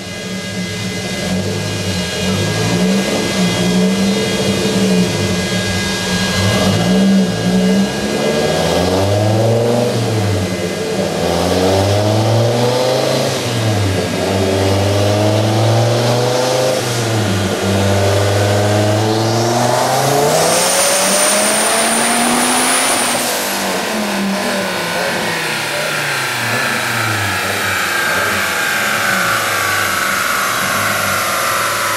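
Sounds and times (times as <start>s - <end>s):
car engine revving: 0.0s - 31.9s
high turbo whine: 0.0s - 31.9s.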